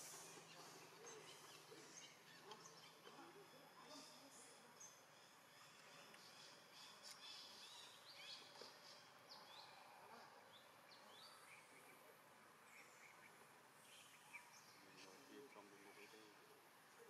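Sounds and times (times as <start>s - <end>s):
quiet hiss: 0.0s - 17.0s
small birds chirping: 0.0s - 17.0s.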